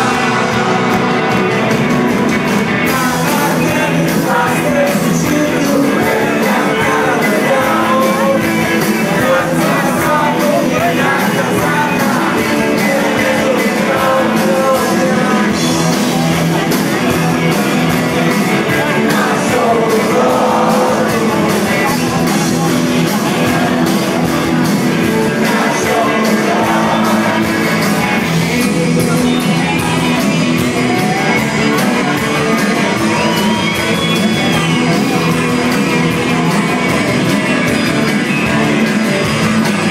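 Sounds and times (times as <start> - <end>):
live rock band playing: 0.0 - 39.9
person singing: 2.8 - 16.8, 18.2 - 36.9.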